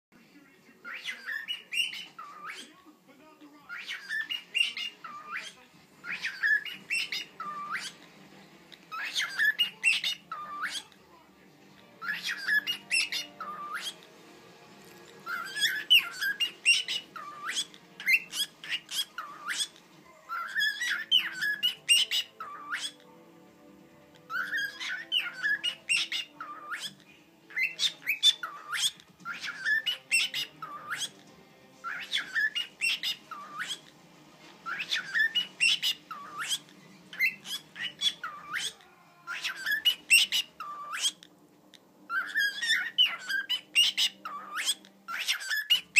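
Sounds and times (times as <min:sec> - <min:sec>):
cockatiel chirping and whistling: 0:00.8 - 0:02.7, 0:03.7 - 0:08.1, 0:08.9 - 0:11.0, 0:12.0 - 0:14.1, 0:15.2 - 0:23.0, 0:24.2 - 0:31.2, 0:31.8 - 0:33.9, 0:34.6 - 0:41.3, 0:42.1 - 0:45.9.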